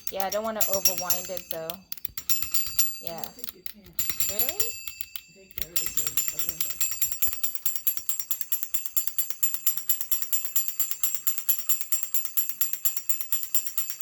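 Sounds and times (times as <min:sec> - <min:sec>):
clockwork toy clicking: 0:00.0 - 0:14.0.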